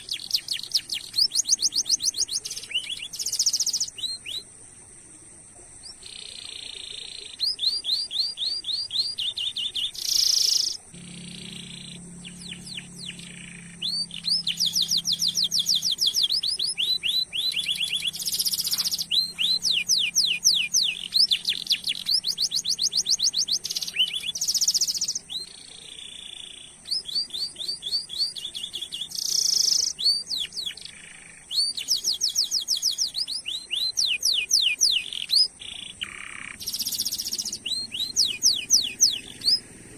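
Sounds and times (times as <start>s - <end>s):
canary singing trills: 0.0s - 4.6s, 5.5s - 39.9s.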